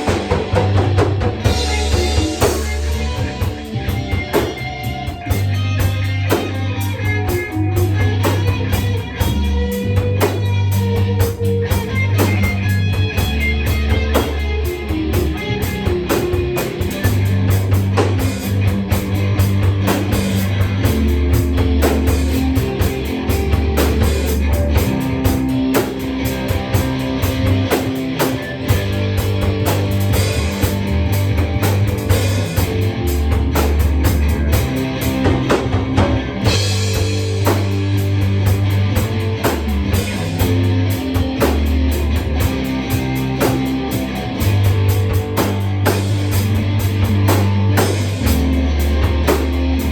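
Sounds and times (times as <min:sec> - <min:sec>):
rock music: 0:00.0 - 0:49.9.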